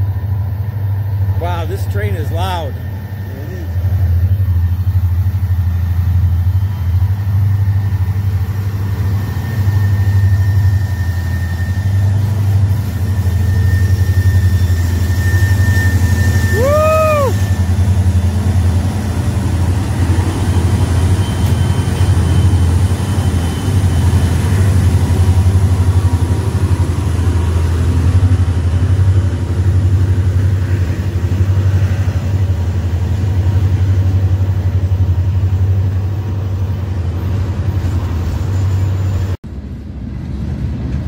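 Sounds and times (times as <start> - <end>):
train rumbling past: 0.0 - 41.0.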